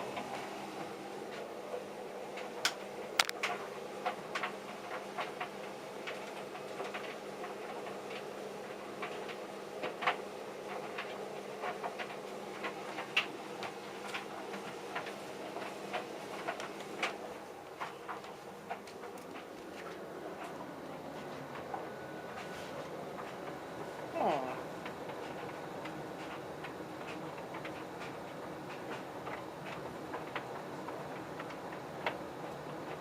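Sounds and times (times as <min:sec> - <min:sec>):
tumble dryer motor hum: 0:00.0 - 0:33.0.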